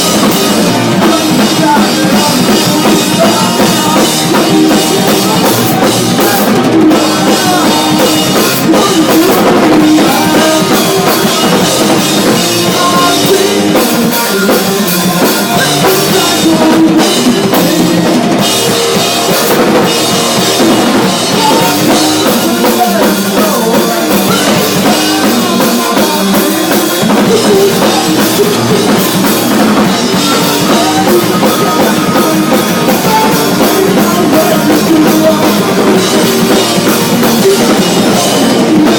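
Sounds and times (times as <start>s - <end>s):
guitars: 0.0s - 38.9s
pounding drum kit: 0.0s - 38.9s.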